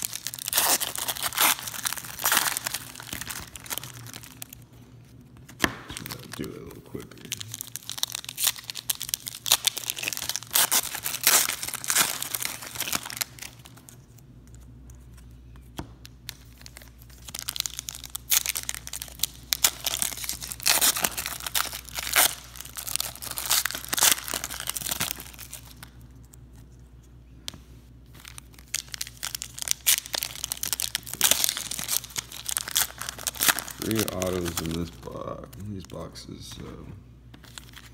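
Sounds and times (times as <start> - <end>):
wrapper tearing and crinkling: 0.0 - 4.6, 5.6 - 14.2, 16.3 - 26.0, 28.1 - 36.3.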